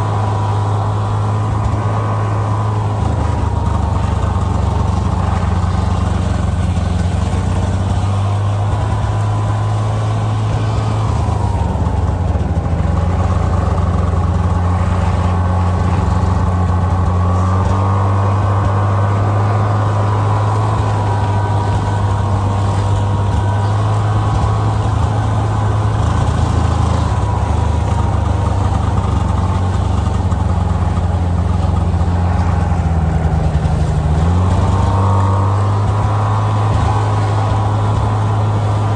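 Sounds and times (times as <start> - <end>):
snow vehicle engine running: 0.0 - 38.9.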